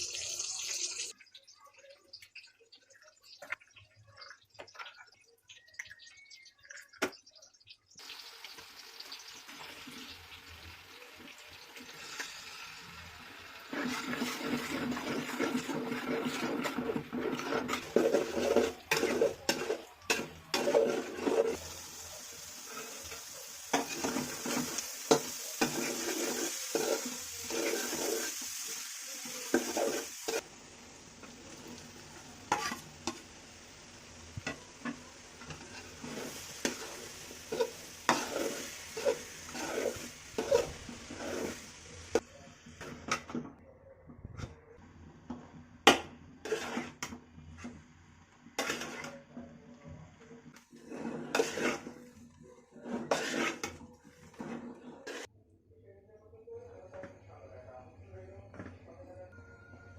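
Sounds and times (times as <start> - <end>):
food sizzling in oil: 0.0 - 42.2, 46.4 - 47.2, 48.5 - 49.1, 50.7 - 55.3.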